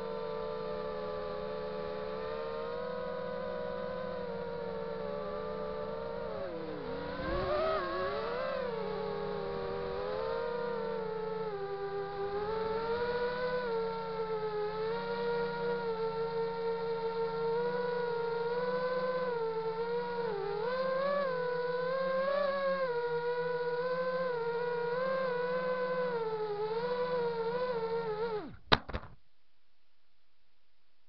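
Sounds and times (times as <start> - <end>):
quadcopter motors whining: 0.0 - 28.6.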